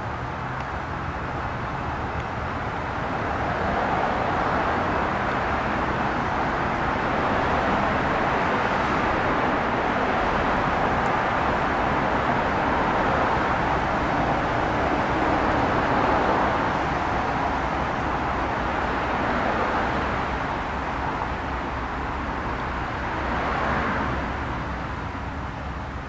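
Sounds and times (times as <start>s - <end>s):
train rumbling on tracks: 3.0s - 26.0s.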